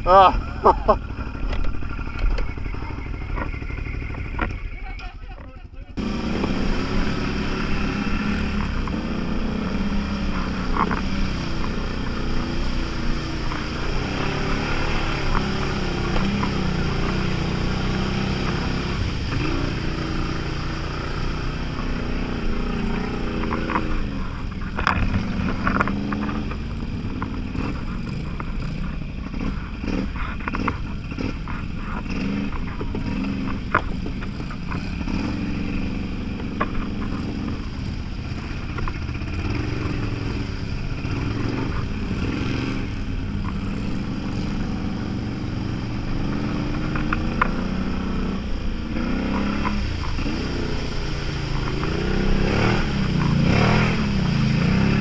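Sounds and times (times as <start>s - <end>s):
off-road vehicle engine revving: 0.0s - 5.1s, 5.8s - 55.0s.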